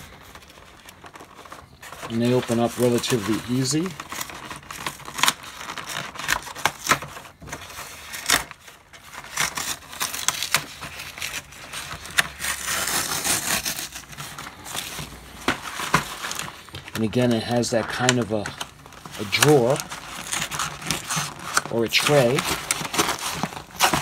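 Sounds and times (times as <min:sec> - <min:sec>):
cardboard rustling: 0:00.0 - 0:24.0
cardboard scraping and rubbing: 0:00.0 - 0:24.0.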